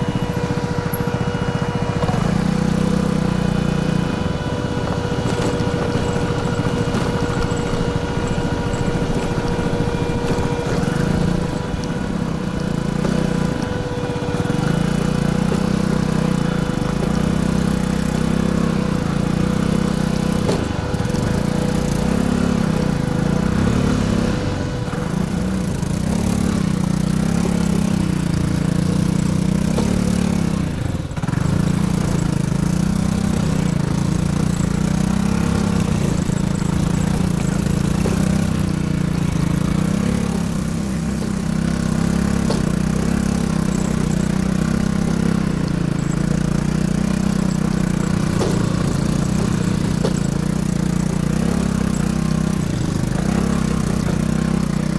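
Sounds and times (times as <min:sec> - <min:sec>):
scooter engine running: 0:00.0 - 0:54.9.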